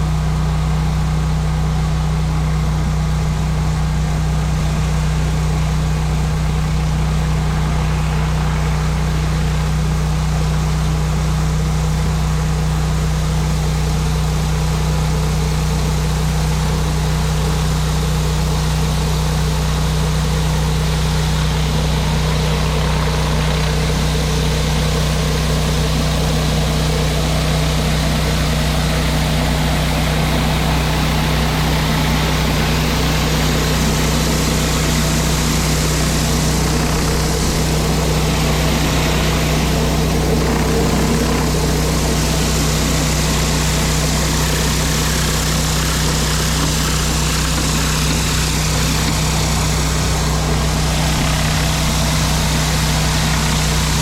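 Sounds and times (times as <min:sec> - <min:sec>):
pressure washer engine running: 0:00.0 - 0:54.0
water spraying onto concrete: 0:03.4 - 0:54.0.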